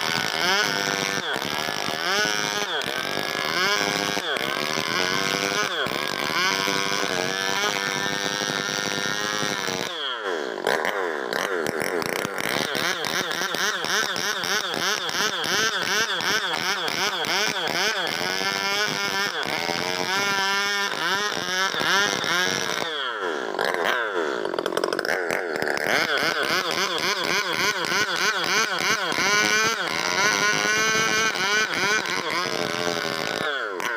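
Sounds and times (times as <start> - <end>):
chainsaw cutting timber: 0.0 - 33.9.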